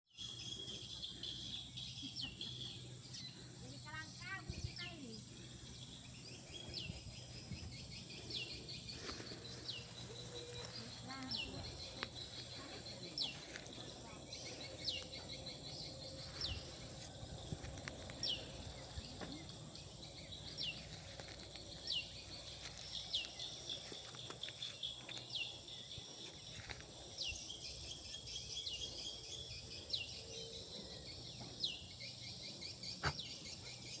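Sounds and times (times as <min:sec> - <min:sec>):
insects buzzing: 0:00.2 - 0:34.0.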